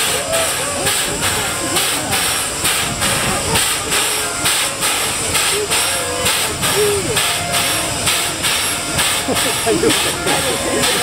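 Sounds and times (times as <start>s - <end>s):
steam locomotive rhythmic hissing puffs: 0.0s - 11.0s.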